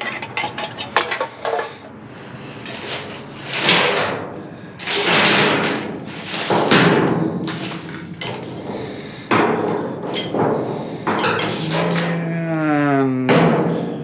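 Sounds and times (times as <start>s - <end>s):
knocks and clatter: 0.0s - 1.8s, 2.7s - 12.2s, 13.3s - 14.0s
trash rustling and scraping: 0.0s - 12.2s.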